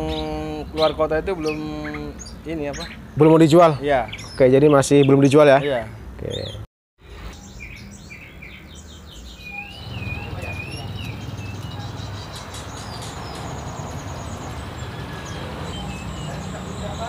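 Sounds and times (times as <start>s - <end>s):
bird trill: 0.0s - 17.0s
songbirds chirping: 0.0s - 17.0s.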